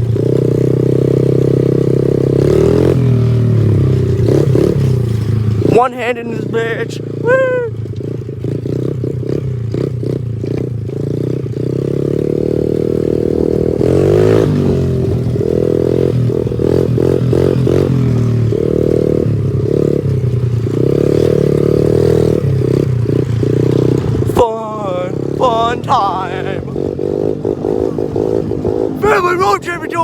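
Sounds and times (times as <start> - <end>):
pit bike engine revving: 0.0 - 30.0.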